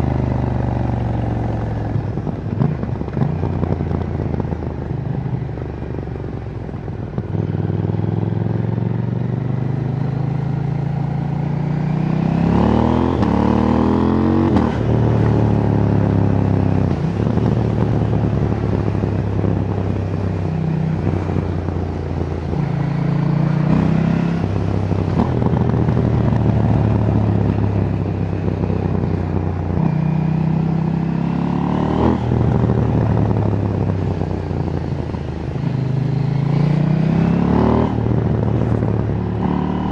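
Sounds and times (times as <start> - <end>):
motorcycle engine revving: 7.2 - 39.9.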